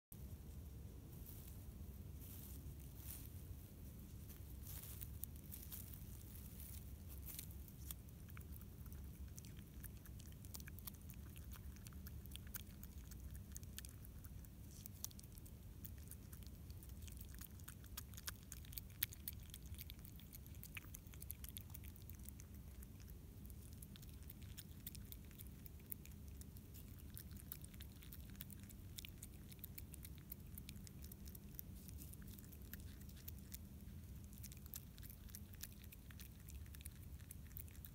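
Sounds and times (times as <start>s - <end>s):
steady low hum: 0.1s - 37.9s
possum chewing food: 0.3s - 37.9s.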